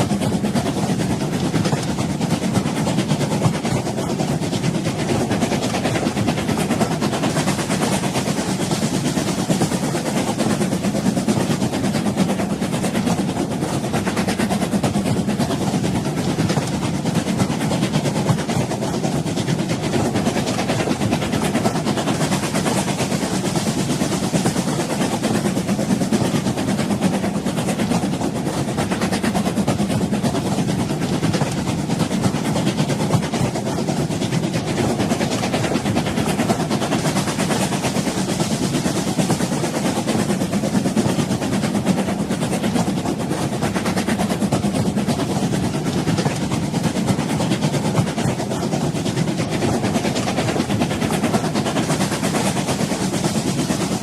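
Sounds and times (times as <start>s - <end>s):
train rumbling and rattling: 0.0s - 54.0s.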